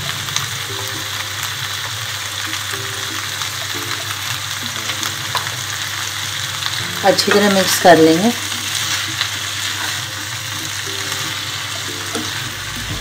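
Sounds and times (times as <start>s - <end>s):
pumpkin frying in a pan: 0.0s - 13.0s.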